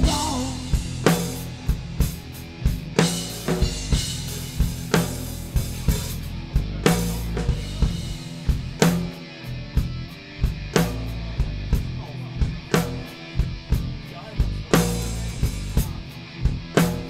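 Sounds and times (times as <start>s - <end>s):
drum kit with hi-hat ticks: 0.0s - 17.0s
electric guitar and bass: 0.0s - 17.0s
live rock band playing: 0.0s - 17.0s.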